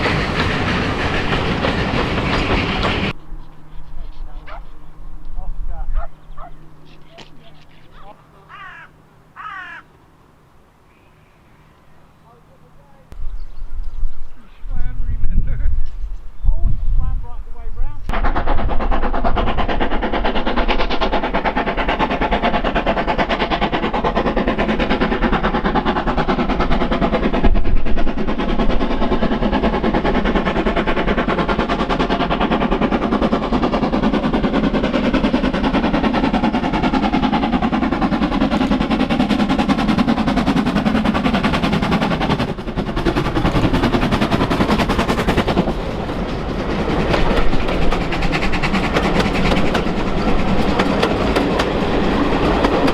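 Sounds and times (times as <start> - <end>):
steam locomotive exhaust beats: 0.0 - 8.2, 12.6 - 52.9
train running: 0.0 - 9.2, 10.0 - 52.9.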